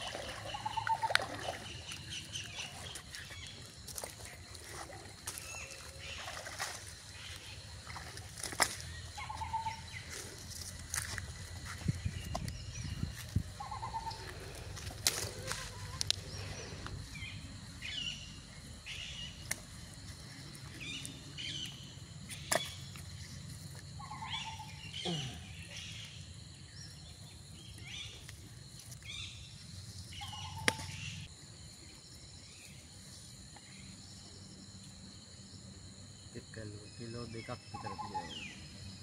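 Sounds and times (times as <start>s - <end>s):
birds chirping: 0.0s - 28.3s, 29.0s - 31.3s, 36.9s - 39.0s
outdoor background noise: 0.0s - 39.0s.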